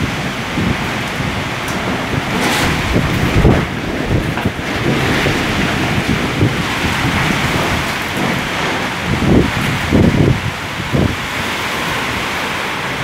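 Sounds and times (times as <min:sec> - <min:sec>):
heavy rain: 0:00.0 - 0:13.0
strong wind gusting: 0:00.0 - 0:13.0
wind buffeting microphone: 0:00.0 - 0:13.0.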